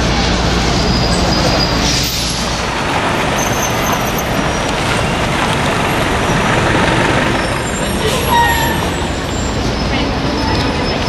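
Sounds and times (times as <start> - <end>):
city traffic: 0.0 - 11.0.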